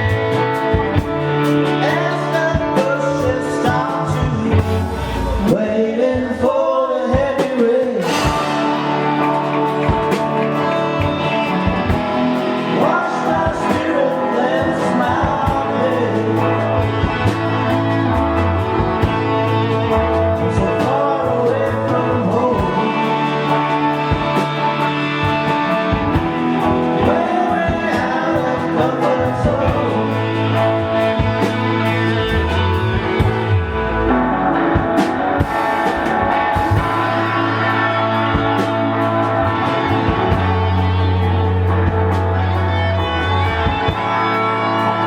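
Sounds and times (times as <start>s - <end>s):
bass: 0.0s - 45.0s
guitar chords: 0.0s - 45.0s
gliding lead melody: 3.9s - 5.6s, 8.1s - 45.0s.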